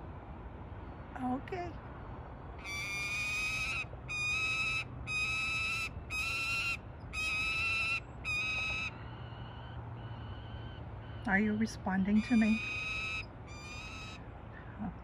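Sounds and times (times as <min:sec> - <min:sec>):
falcon calling: 0:02.6 - 0:14.8.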